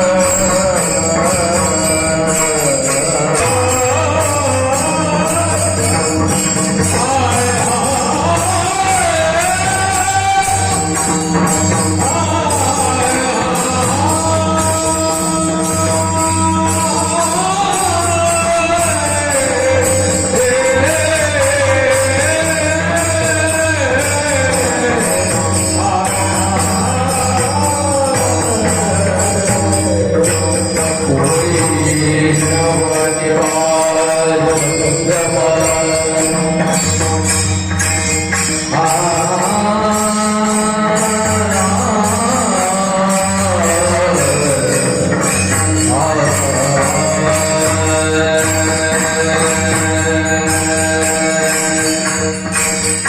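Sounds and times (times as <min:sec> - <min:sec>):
jingling metal percussion: 0:00.0 - 0:53.0
man singing: 0:00.0 - 0:53.0.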